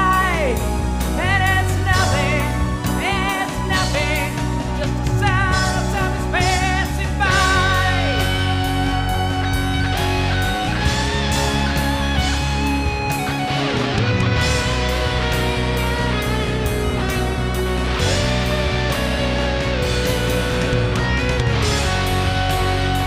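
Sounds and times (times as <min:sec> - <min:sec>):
lead guitar melody with vibrato: 0:00.0 - 0:23.0
rock band playing: 0:00.0 - 0:23.0.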